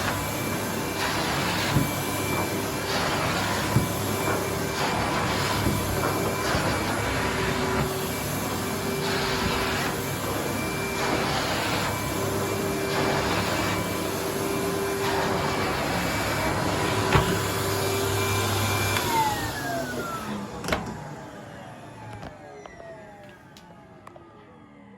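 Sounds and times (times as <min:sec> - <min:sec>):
vacuum cleaner motor whining: 0:00.0 - 0:24.9.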